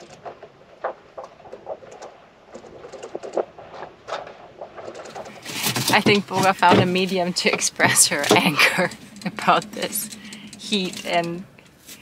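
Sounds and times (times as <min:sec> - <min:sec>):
water lapping against boat: 0:00.0 - 0:11.5.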